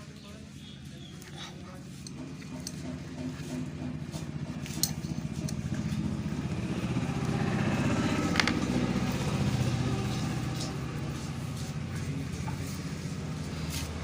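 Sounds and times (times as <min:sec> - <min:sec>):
engine running fast: 0:01.4 - 0:14.0.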